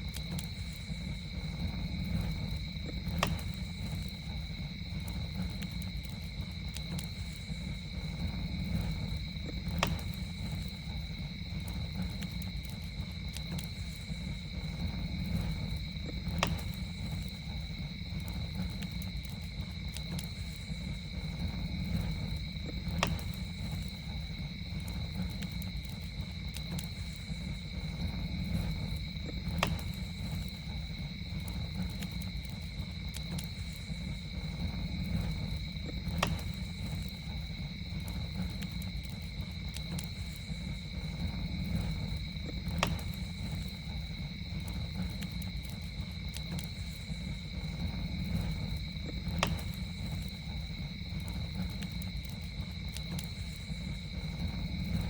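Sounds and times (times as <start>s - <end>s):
campfire burning and popping: 0.0s - 55.0s
high insect drone: 0.0s - 55.0s.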